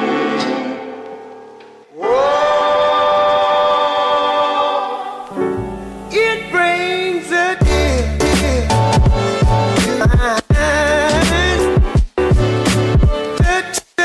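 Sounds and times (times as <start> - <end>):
low beat with sung vocal: 2.0 - 14.0.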